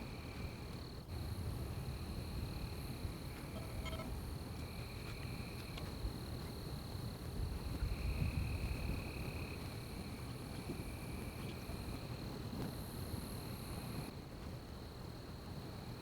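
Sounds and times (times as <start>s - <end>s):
high insects trilling: 0.0s - 14.1s
lower insect trill: 0.0s - 14.1s.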